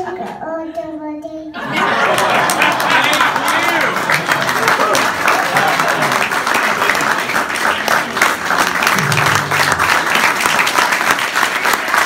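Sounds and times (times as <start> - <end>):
audience applauding: 1.8 - 12.0.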